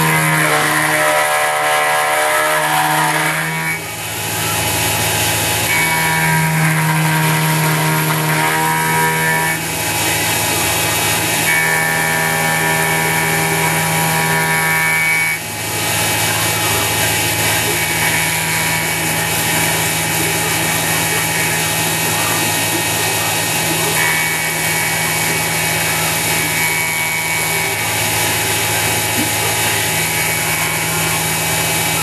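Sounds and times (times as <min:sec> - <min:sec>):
milling machine cutting metal: 0:00.0 - 0:32.0
pitch-jumping whine: 0:00.0 - 0:32.0.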